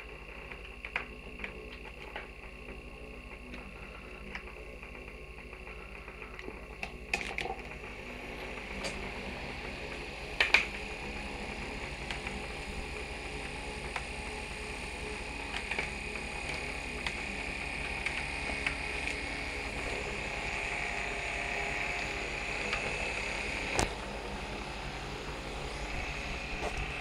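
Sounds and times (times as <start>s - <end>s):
small fan whirring: 0.0s - 27.0s.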